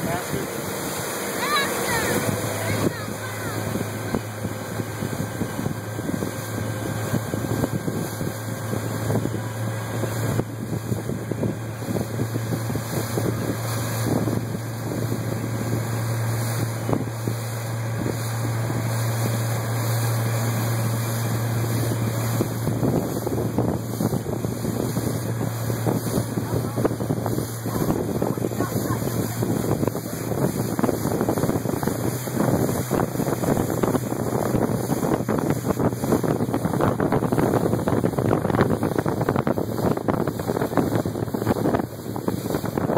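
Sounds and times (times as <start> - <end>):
boat wake churning: 0.0 - 42.9
motorboat engine drone: 0.0 - 42.9
wind buffeting microphone: 0.0 - 42.9.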